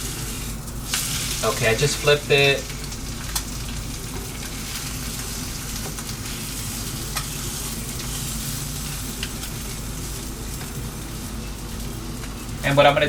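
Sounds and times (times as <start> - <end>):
egg sizzling in a pan: 0.0 - 13.0.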